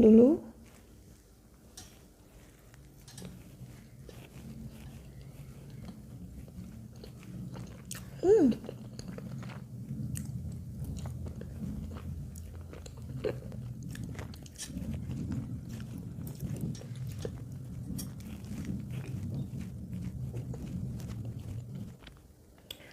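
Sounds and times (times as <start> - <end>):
steady low hum: 0.0 - 22.9
close-up chewing with mouth clicks: 1.6 - 22.9.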